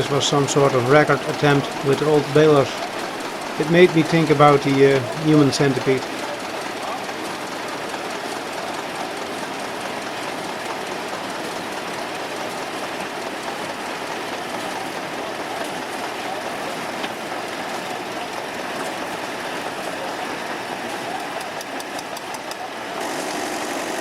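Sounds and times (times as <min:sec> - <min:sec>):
hay balers running: 0:00.0 - 0:24.0.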